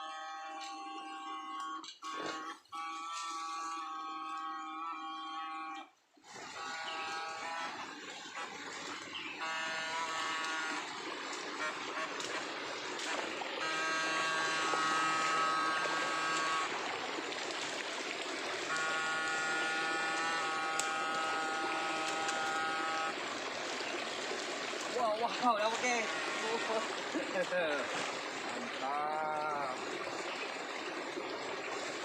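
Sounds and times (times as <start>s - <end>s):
electrofishing shocker buzzing: 0.0s - 23.2s, 25.0s - 28.1s
running river water: 0.0s - 32.0s.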